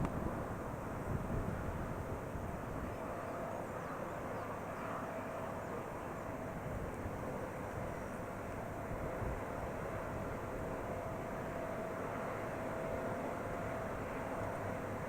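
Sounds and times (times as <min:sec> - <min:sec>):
jet engine hum with whine: 0:00.0 - 0:15.0.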